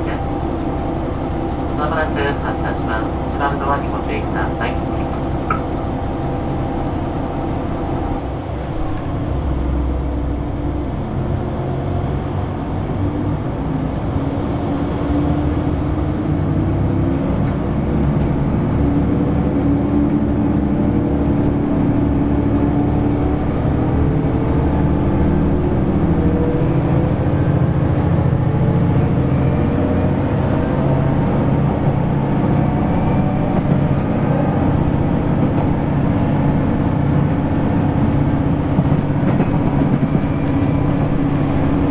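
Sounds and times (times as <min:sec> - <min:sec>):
railcar diesel engine drone: 0:00.0 - 0:41.9.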